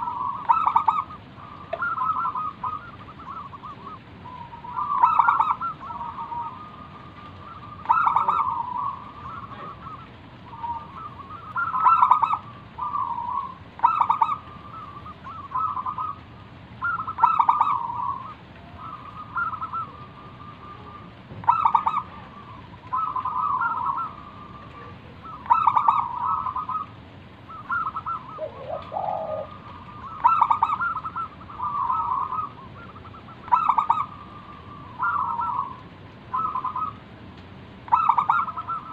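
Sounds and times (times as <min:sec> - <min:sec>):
dove cooing: 0:00.0 - 0:37.1, 0:37.8 - 0:38.9.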